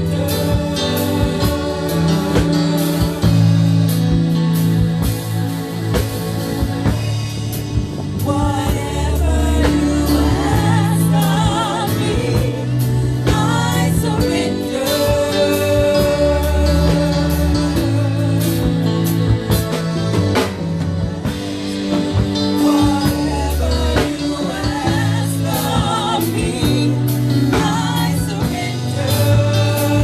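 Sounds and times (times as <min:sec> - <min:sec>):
bass notes and band accompaniment: 0:00.0 - 0:30.0
gospel singing with vibrato: 0:00.0 - 0:30.0.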